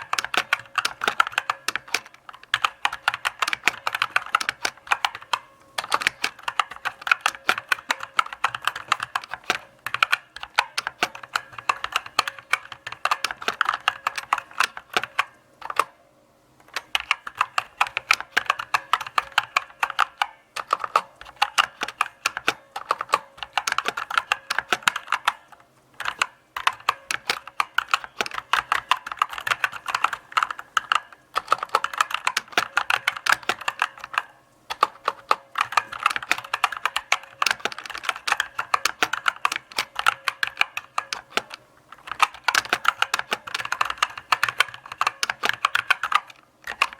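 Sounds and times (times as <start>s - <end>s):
mechanical keyboard typing: 0.0s - 16.0s, 16.6s - 46.9s.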